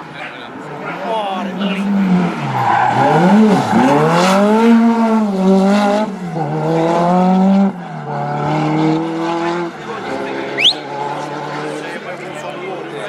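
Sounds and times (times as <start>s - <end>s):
rally car engine revving: 0.5s - 13.0s.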